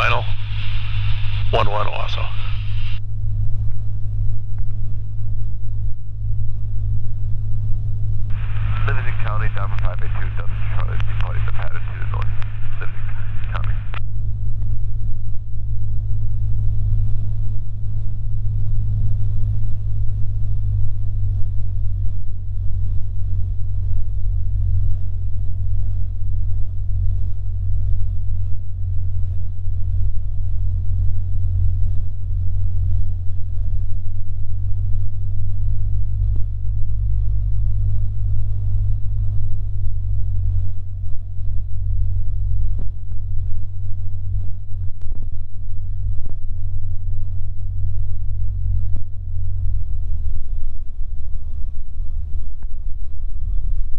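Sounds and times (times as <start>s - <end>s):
airplane engine and propeller droning: 0.0s - 53.9s
faint high steady tone: 0.0s - 53.9s.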